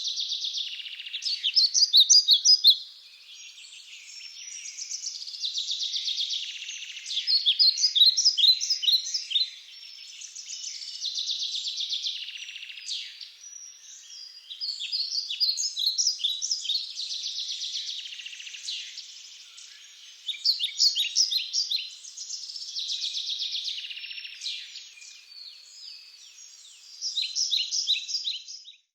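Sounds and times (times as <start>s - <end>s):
songbird singing trills and chirps: 0.0s - 28.9s.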